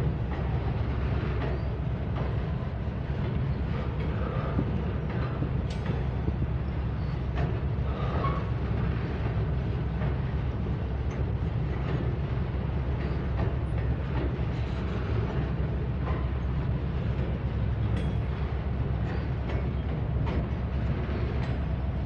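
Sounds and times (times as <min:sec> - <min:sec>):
train wheels rumbling on bridge: 0:00.0 - 0:22.0.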